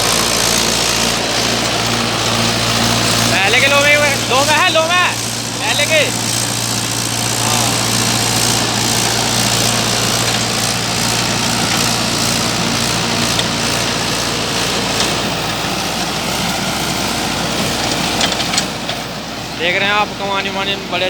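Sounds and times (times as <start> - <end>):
soil churning: 0.0 - 20.2
tractor diesel engine drone: 0.0 - 21.0.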